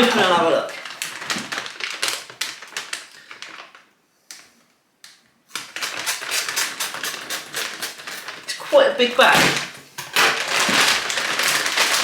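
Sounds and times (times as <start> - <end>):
plastic bag crinkling: 0.0 - 3.9, 5.5 - 12.0.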